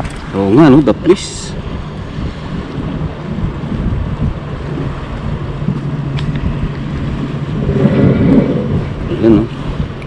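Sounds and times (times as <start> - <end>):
low hum: 0.0 - 10.0
wind buffeting microphone: 0.0 - 10.0.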